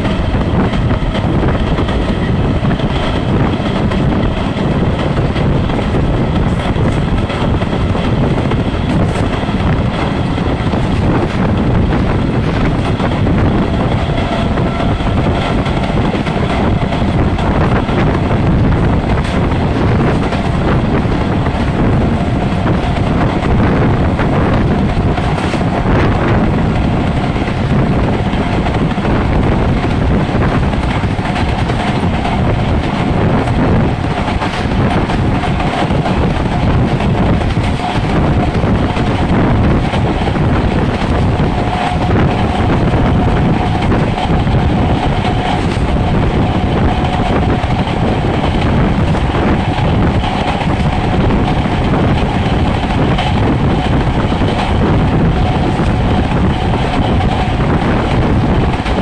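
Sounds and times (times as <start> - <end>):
rushing air: 0.0 - 59.0
train wheels rumbling on rail: 0.0 - 59.0.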